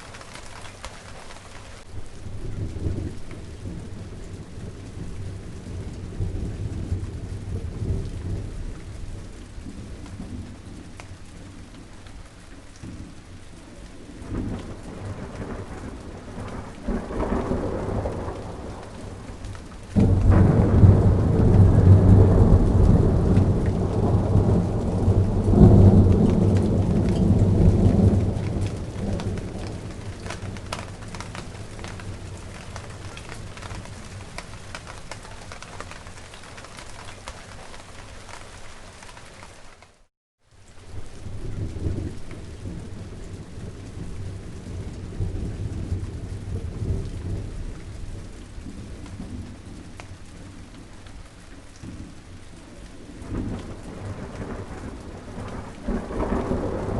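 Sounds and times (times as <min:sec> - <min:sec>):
thunder rumbling: 0:00.0 - 0:39.2, 0:40.8 - 0:56.9
steady rain falling: 0:00.0 - 0:56.9.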